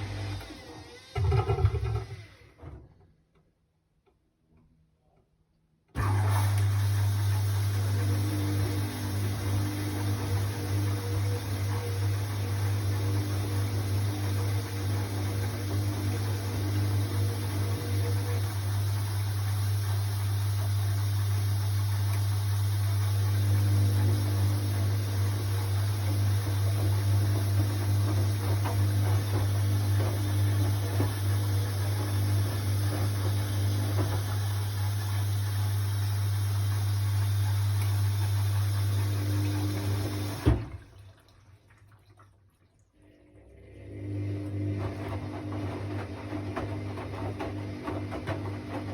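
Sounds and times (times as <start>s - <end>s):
washing machine humming: 0.0s - 2.6s, 6.0s - 41.6s, 43.0s - 48.9s.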